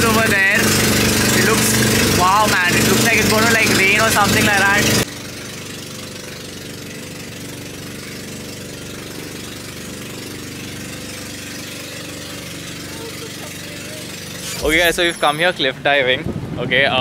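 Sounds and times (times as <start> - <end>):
water washing along hull: 0.0 - 14.5
boat engine droning: 0.0 - 17.0.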